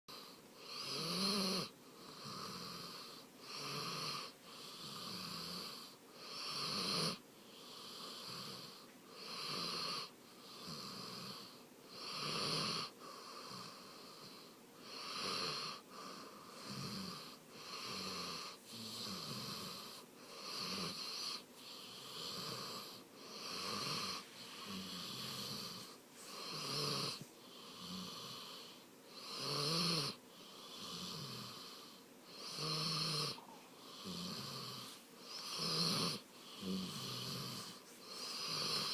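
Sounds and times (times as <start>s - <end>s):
dog snoring: 0.1s - 38.9s.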